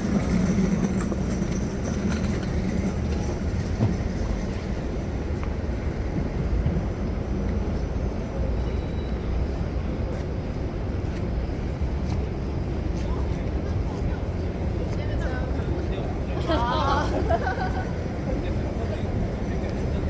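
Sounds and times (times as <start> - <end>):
low rumble of city traffic: 0.0 - 20.0.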